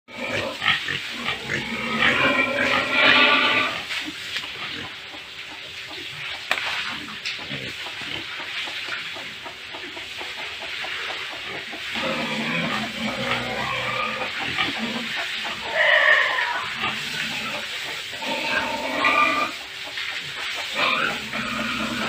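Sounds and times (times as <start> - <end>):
pigs squealing and grunting: 0.1 - 22.0.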